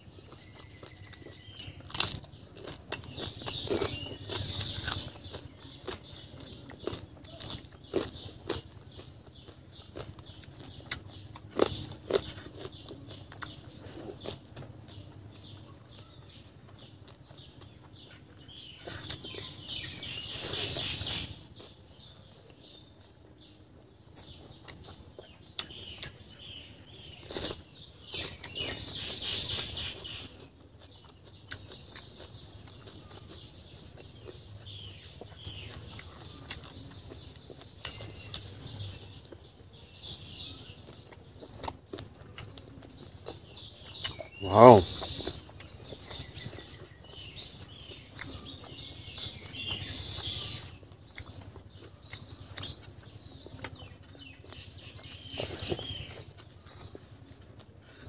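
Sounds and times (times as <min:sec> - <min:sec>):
birds chirping: 0:00.0 - 0:58.0
person chewing: 0:00.0 - 0:58.0.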